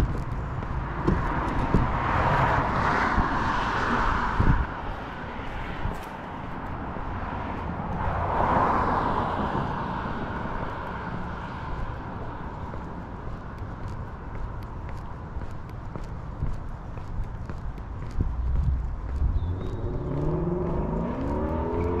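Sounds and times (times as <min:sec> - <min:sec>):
low steady traffic rumble: 0:00.0 - 0:22.0
vehicles passing: 0:00.0 - 0:22.0.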